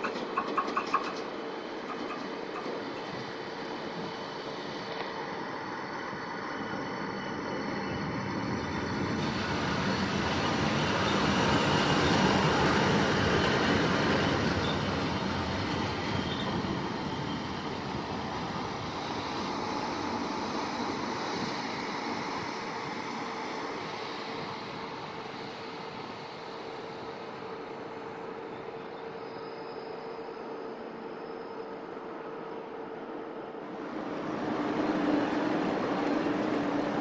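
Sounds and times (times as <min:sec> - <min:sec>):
electric locomotive passing: 0:00.0 - 0:37.0.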